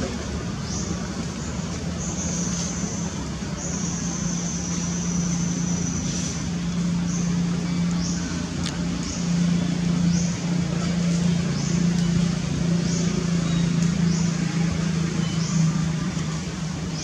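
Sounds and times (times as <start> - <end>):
distant motor hum: 0.0 - 17.0.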